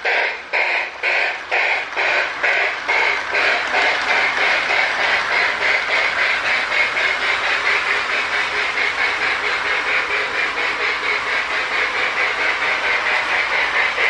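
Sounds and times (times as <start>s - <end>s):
toy steam locomotive chuffing: 0.0s - 14.0s.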